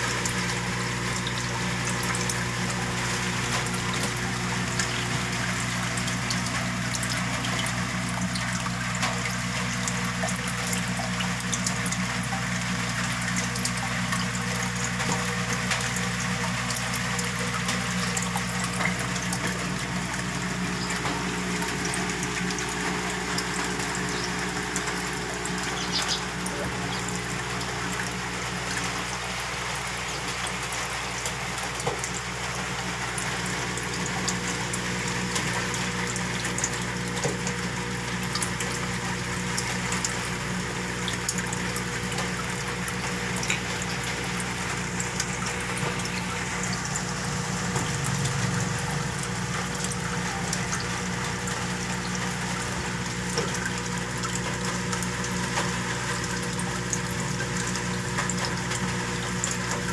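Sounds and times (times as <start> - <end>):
water bubbling: 0.0 - 38.4, 40.4 - 58.9
water pump humming: 0.0 - 59.9.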